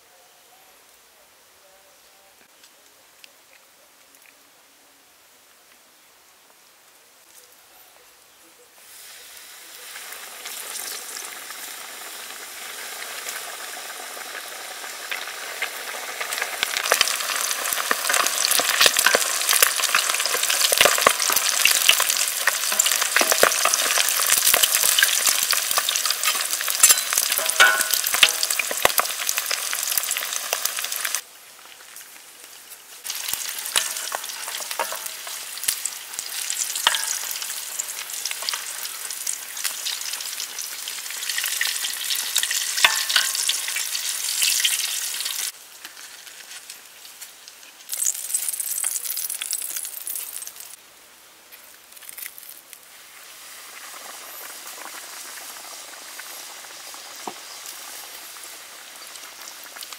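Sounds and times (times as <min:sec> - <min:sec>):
chicken deep-frying in oil: 0:08.8 - 0:59.9.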